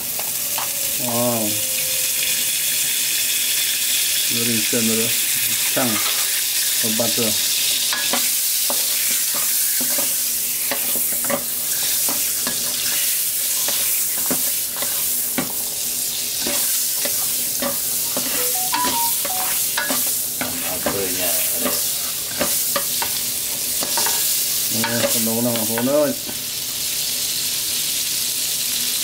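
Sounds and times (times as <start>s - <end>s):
beef sizzling in a pan: 0.0s - 29.0s.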